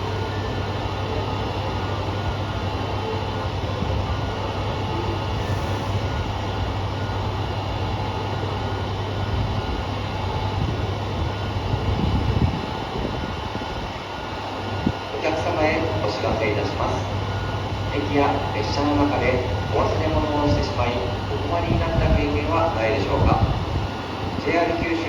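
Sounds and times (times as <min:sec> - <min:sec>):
abnormal railcar noise: 0:00.0 - 0:25.0
diesel railcar idling hum: 0:00.0 - 0:25.0.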